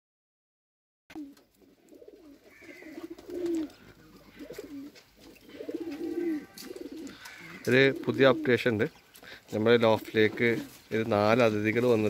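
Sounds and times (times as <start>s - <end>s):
pigeons cooing: 1.1s - 11.0s.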